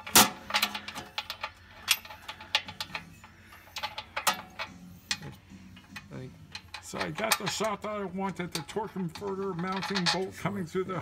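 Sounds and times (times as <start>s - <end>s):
metal clicks of bolts and tools: 0.0s - 10.4s.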